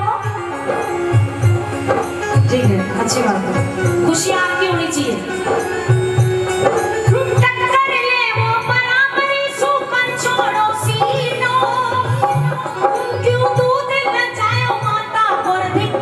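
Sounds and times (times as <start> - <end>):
woman singing into a microphone: 0.0 - 16.0.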